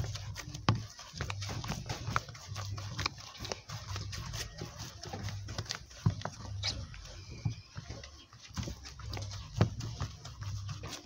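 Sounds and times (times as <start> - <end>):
dough squelching: 0.0 - 11.0.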